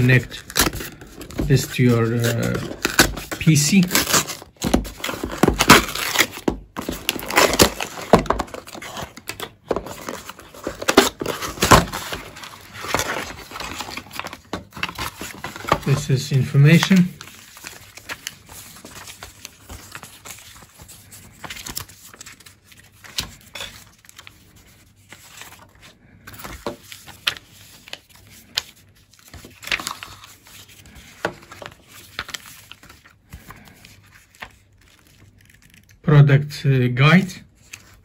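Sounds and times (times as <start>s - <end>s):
paper leaflets rustling: 0.0s - 36.0s.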